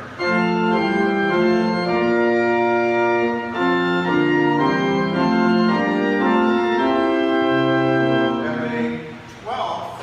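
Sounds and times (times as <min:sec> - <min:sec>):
pipe organ chords: 0:00.0 - 0:09.3.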